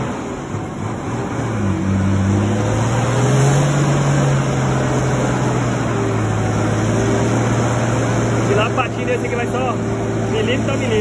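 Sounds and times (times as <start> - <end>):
diesel engine labouring: 0.0 - 11.0.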